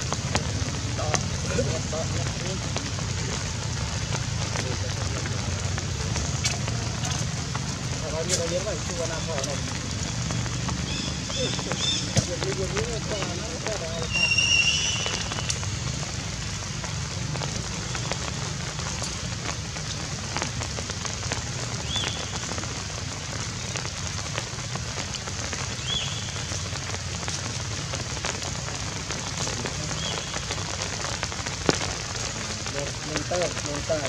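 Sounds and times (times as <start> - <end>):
light rain pattering: 0.0 - 34.0
water drips: 0.0 - 34.0.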